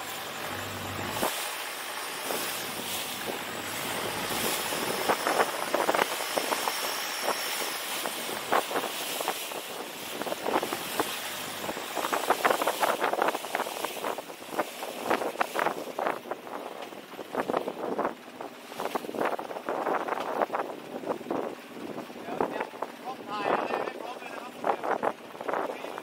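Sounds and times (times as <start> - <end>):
water slapping: 0.0 - 21.0
water splashing along boat hull: 0.0 - 23.2
wind rushing over microphone: 2.2 - 26.0.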